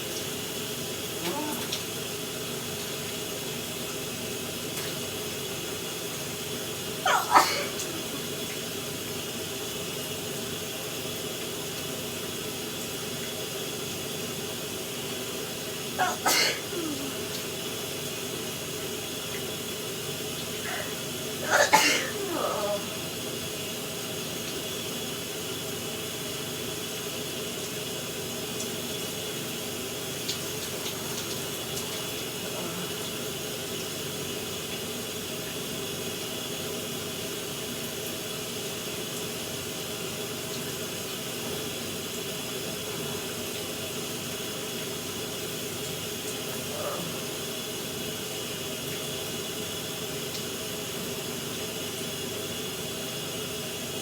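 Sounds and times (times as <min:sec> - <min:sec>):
shower running: 0:00.0 - 0:54.0.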